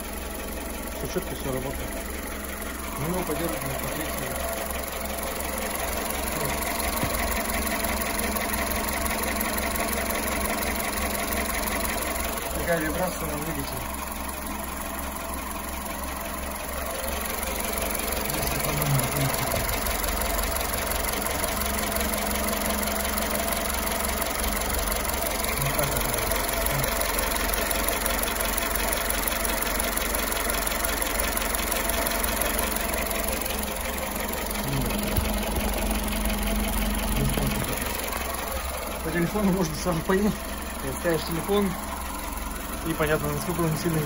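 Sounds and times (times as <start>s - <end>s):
car engine idling with knock: 0.0s - 44.0s.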